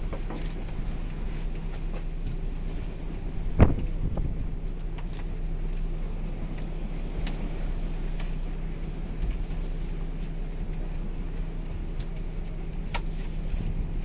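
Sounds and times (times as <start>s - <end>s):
boat engine drone: 0.0s - 14.0s.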